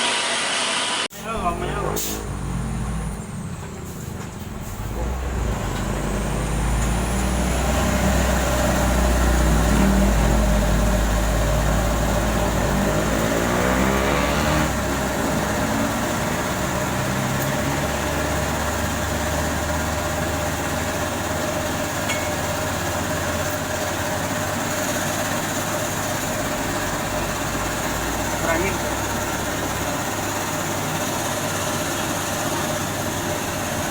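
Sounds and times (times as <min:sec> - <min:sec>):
truck diesel engine running: 0:01.1 - 0:33.9.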